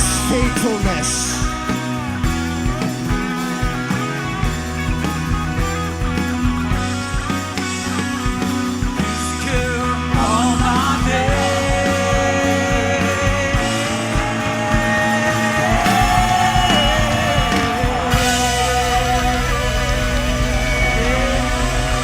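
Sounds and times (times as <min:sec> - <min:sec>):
rock worship music: 0:00.0 - 0:22.0.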